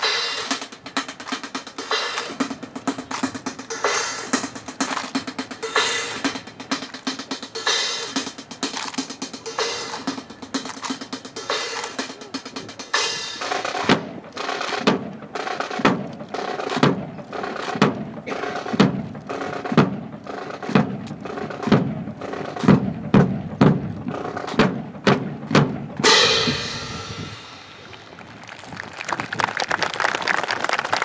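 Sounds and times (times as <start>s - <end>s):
marching drums beating: 0.0s - 28.2s.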